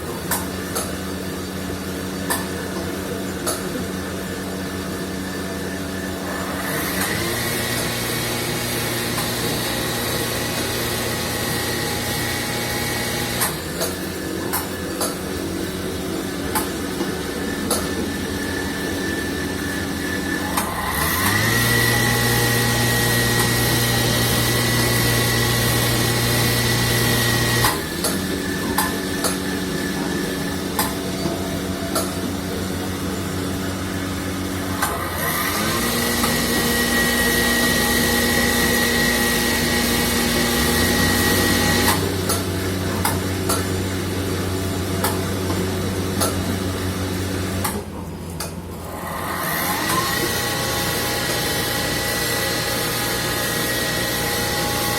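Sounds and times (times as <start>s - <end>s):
machine humming: 0.0s - 54.9s
motor whine: 5.1s - 48.0s, 48.7s - 54.9s.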